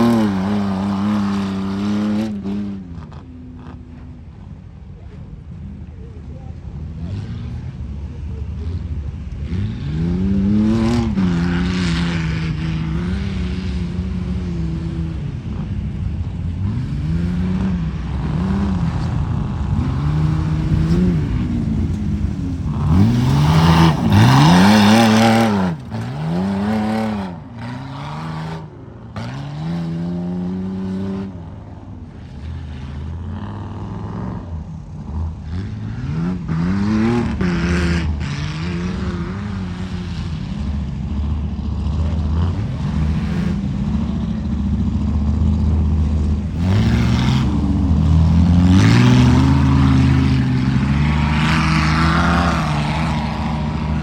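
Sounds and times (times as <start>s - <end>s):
truck engine revving: 0.0s - 3.8s, 7.0s - 31.4s, 32.5s - 54.0s.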